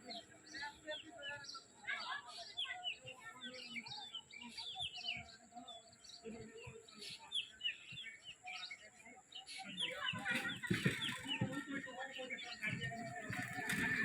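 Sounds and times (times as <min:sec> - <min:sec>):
flock of small birds chirping: 0:00.0 - 0:14.0.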